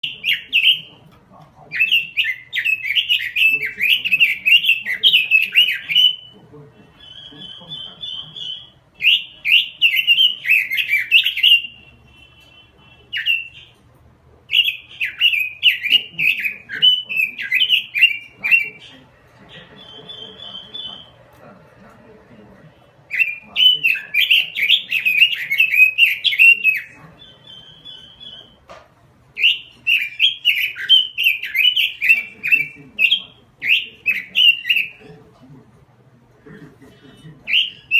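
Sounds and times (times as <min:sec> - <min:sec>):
bird singing warbled phrases and trills: 0:00.0 - 0:28.7, 0:29.4 - 0:37.9.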